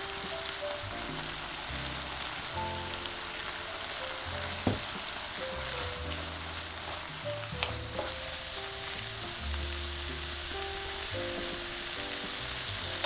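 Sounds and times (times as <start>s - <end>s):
food sizzling in a frying pan: 0.0s - 13.0s
soft background music: 0.0s - 13.0s.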